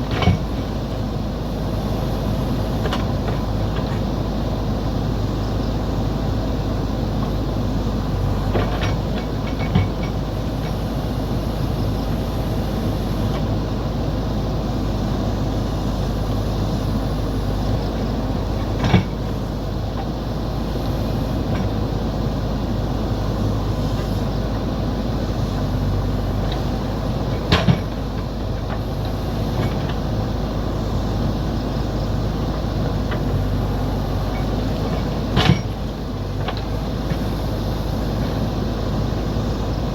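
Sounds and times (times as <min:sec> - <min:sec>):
diesel machine engine running: 0:00.0 - 0:39.9.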